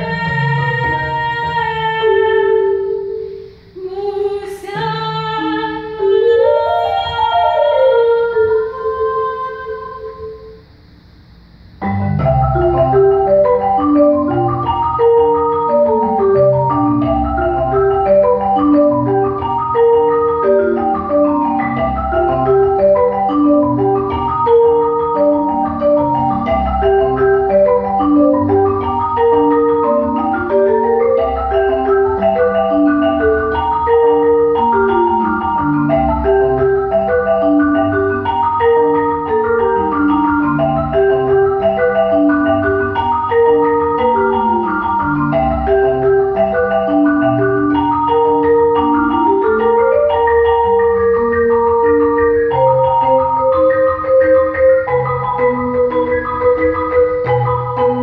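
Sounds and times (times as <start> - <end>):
marimba playing: 0.0 - 3.6, 4.8 - 10.5, 11.8 - 58.0.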